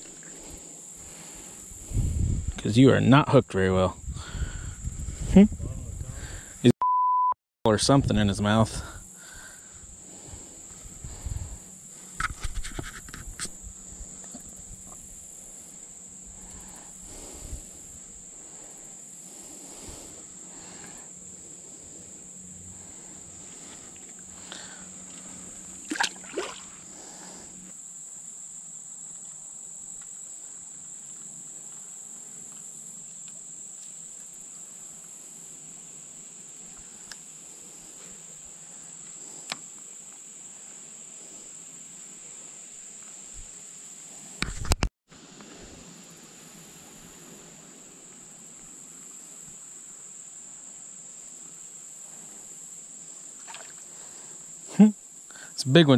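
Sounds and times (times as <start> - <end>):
insects droning: 0.0 - 6.7, 7.7 - 55.9.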